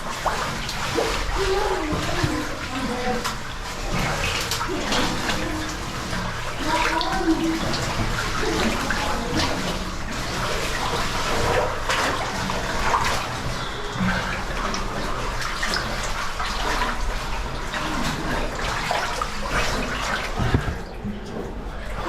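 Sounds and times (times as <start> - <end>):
water rushing in a cave: 0.0 - 22.0.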